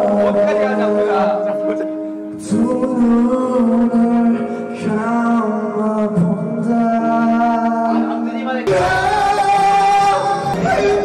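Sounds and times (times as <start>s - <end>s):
man singing into microphone: 0.0s - 1.7s, 2.3s - 11.0s
backing music: 0.0s - 11.0s.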